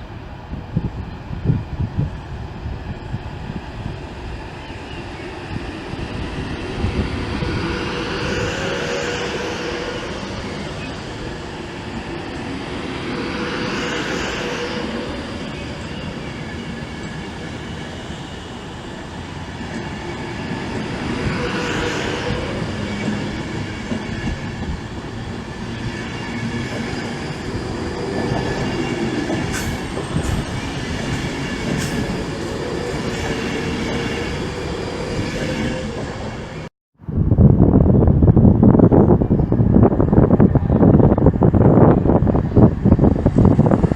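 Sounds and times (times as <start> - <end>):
train wheels rumbling: 1.5 - 36.7.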